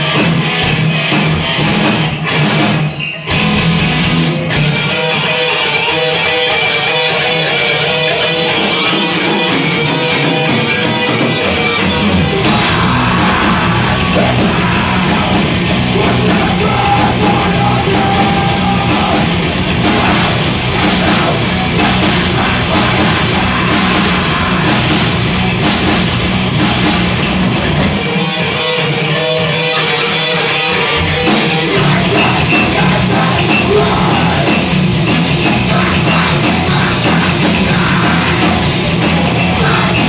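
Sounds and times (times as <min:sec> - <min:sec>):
live heavy rock band: 0:00.0 - 0:40.0.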